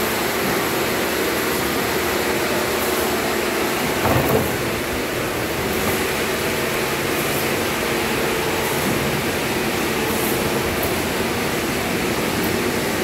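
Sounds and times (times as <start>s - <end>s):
sawmill machinery droning: 0.0s - 13.0s.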